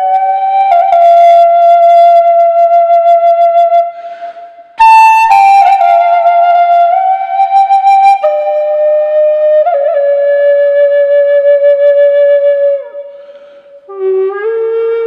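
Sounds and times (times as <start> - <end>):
flute playing slow melody: 0.0 - 15.0.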